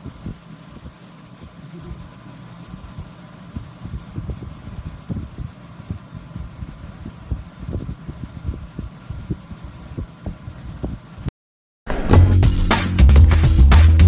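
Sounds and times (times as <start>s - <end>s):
air conditioner hum: 0.0s - 11.3s
air gusts thumping on microphone: 0.0s - 11.3s.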